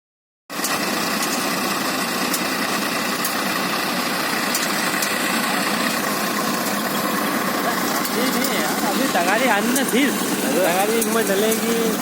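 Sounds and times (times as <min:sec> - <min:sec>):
threshing machine whir: 0:00.5 - 0:12.0
tractor engine running under load: 0:00.5 - 0:12.0.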